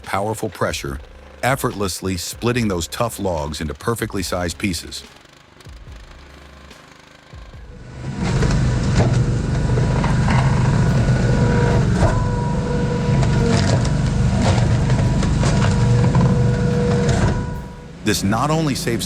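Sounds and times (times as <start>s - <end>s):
log splitter whining: 0.9s - 19.0s.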